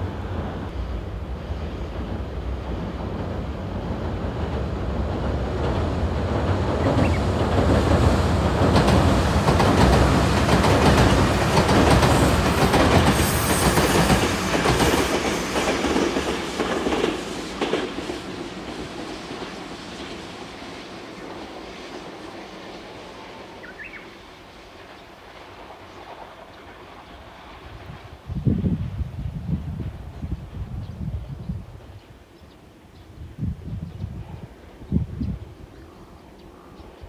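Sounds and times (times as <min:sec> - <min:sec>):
electric train passing: 0:00.0 - 0:37.0.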